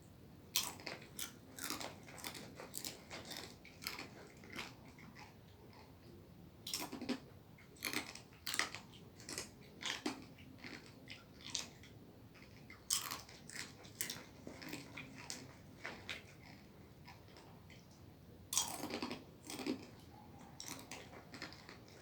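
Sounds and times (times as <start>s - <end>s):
person chewing crunchy food: 0.5s - 22.0s.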